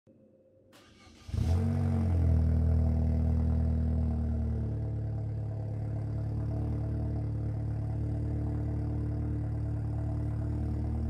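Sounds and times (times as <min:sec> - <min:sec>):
car engine starting and idling: 0:00.8 - 0:11.0.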